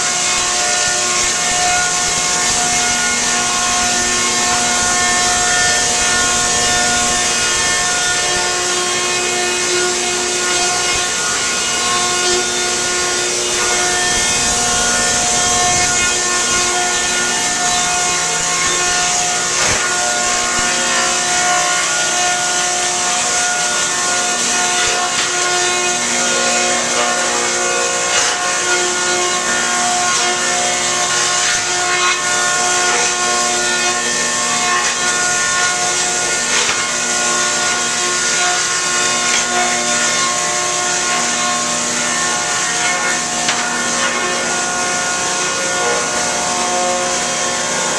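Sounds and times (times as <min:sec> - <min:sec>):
wood planer machine whine: 0:00.0 - 0:47.9.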